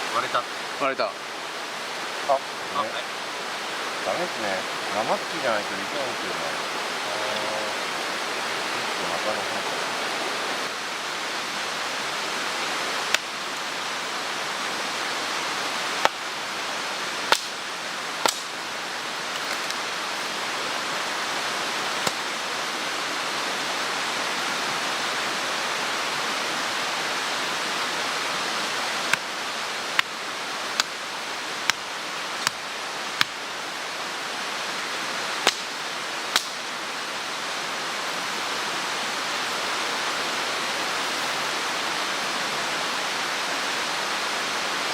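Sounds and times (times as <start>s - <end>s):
mountain stream rushing: 0.0s - 44.9s.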